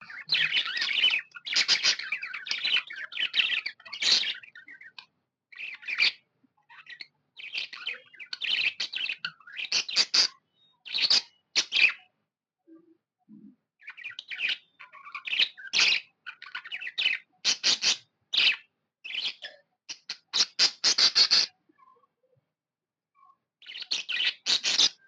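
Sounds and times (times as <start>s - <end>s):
budgerigar chirping: 0.0s - 5.0s, 5.6s - 12.0s, 13.9s - 21.6s, 23.6s - 25.0s.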